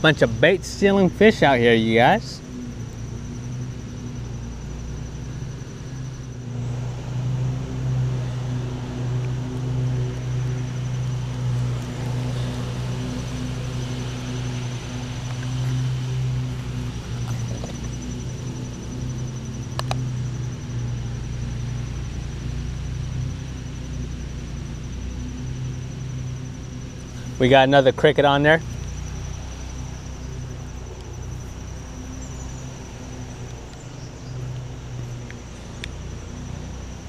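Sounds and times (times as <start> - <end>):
engine humming: 0.0 - 37.0.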